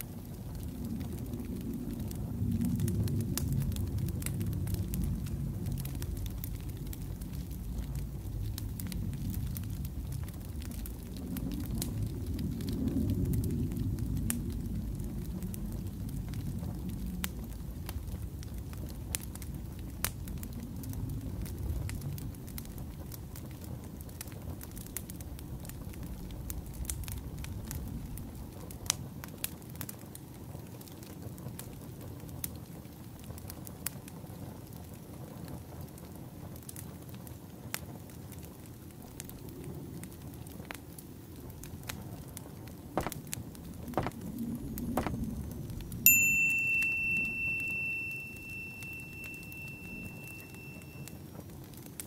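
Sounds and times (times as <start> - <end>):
crackling wood fire: 0.0 - 52.0.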